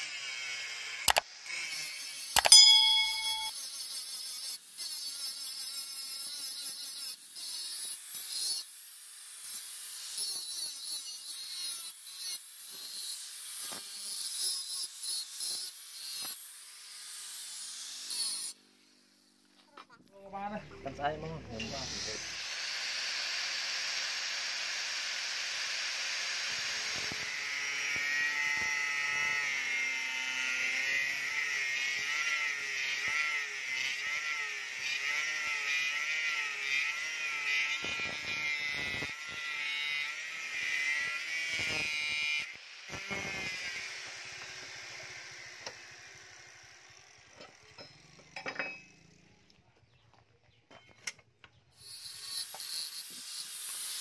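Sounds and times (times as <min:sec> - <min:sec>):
angle grinder cutting steel: 0:00.0 - 0:19.3, 0:20.4 - 0:49.4, 0:51.7 - 0:54.0.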